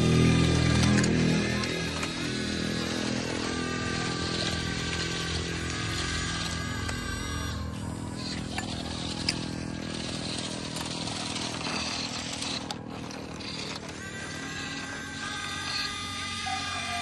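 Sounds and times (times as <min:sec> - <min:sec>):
toy excavator motors buzzing: 0:00.0 - 0:17.0.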